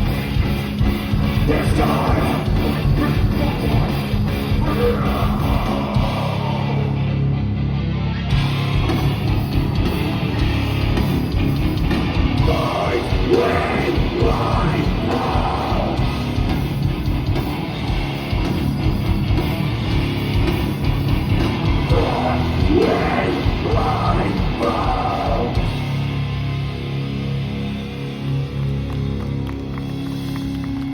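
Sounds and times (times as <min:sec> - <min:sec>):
band vocals: 0:00.0 - 0:07.6, 0:08.3 - 0:27.2
live metal band playing: 0:00.0 - 0:30.9.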